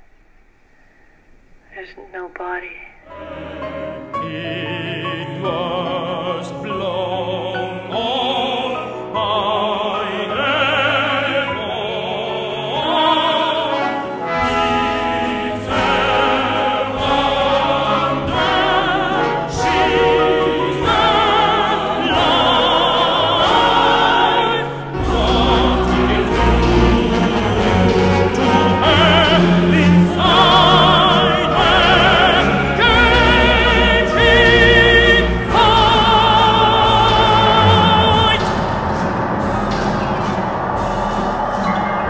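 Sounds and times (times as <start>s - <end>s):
choir singing with vibrato: 3.0s - 42.0s
instrumental accompaniment: 3.1s - 42.0s.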